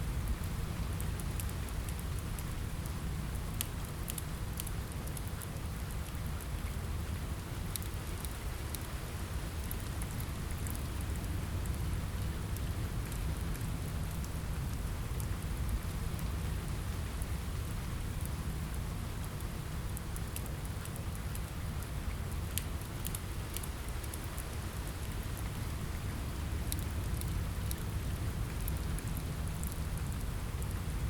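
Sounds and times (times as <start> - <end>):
rain on a window: 0.0 - 31.0
fireplace fire crackling: 0.1 - 31.0.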